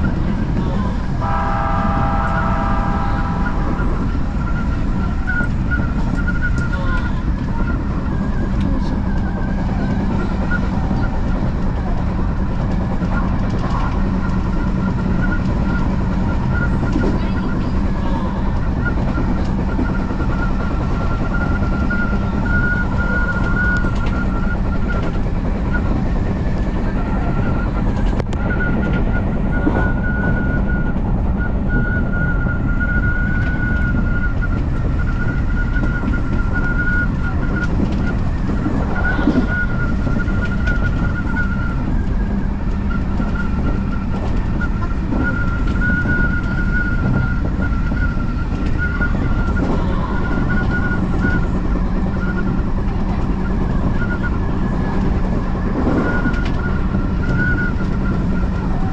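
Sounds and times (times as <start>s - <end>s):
electric train rumble: 0.0s - 58.9s
high wavering whine: 0.0s - 58.9s.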